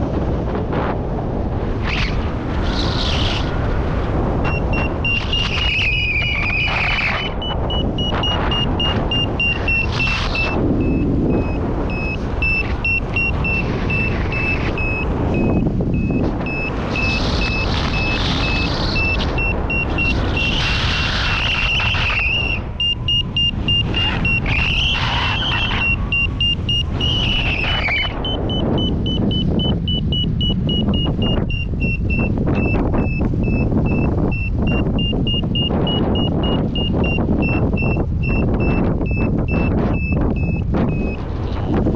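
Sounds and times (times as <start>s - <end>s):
wind buffeting microphone: 0.0s - 41.9s
rapid high-pitched beeping: 4.5s - 20.6s, 21.4s - 41.2s.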